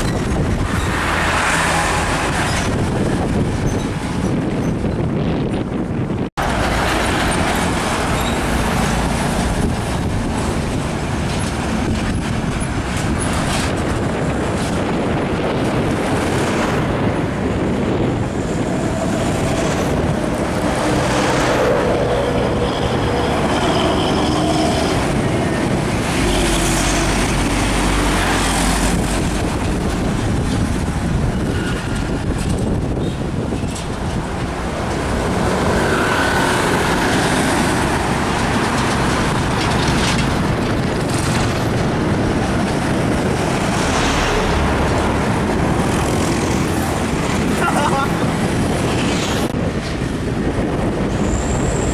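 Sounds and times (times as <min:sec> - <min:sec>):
heavy trucks passing: 0:00.0 - 0:51.9
tyre and road noise: 0:00.0 - 0:51.9.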